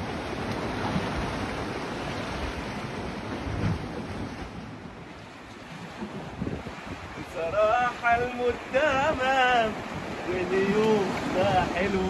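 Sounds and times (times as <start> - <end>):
surf washing against concrete: 0.0 - 12.0
wind buffeting microphone: 0.0 - 12.0.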